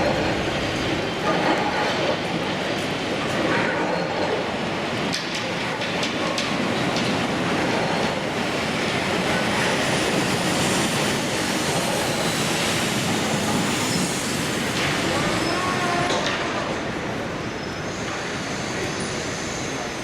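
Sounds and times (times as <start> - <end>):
train rolling rumble on rails: 0.0 - 20.0.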